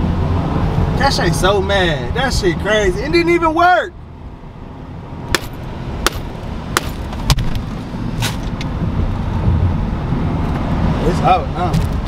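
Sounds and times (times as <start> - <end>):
low rumble of road and engine: 0.0 - 12.0.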